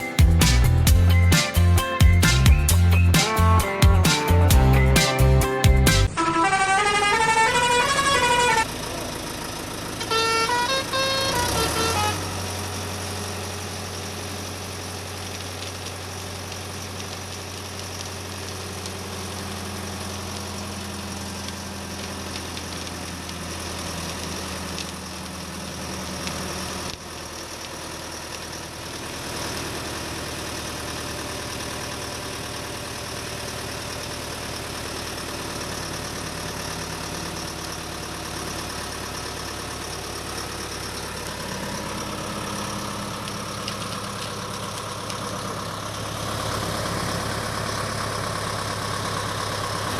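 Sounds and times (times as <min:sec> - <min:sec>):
toy vehicle engine idling: 0:06.4 - 0:49.9.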